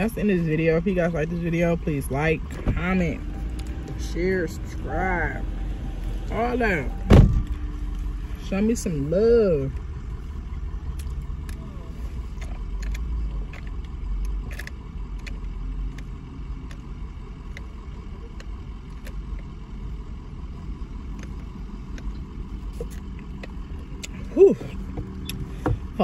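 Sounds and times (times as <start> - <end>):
low rumble inside car: 0.0 - 26.0.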